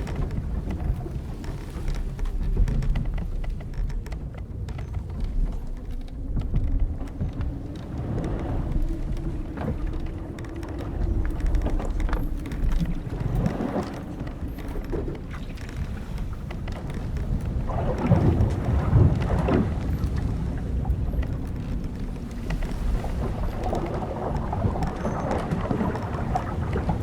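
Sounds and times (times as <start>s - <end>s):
faint ticks and drips: 0.0s - 27.0s
rumble of sea and wind: 0.0s - 27.0s
wooden ship timbers creaking: 0.0s - 27.0s.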